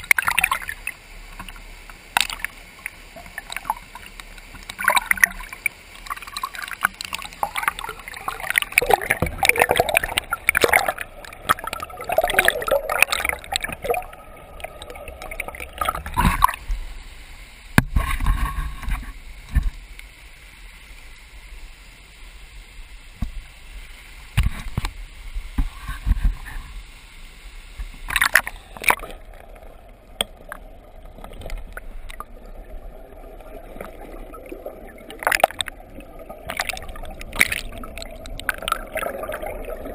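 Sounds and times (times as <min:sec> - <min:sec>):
river water gurgling and splashing: 0:00.0 - 0:20.0, 0:27.6 - 0:39.9.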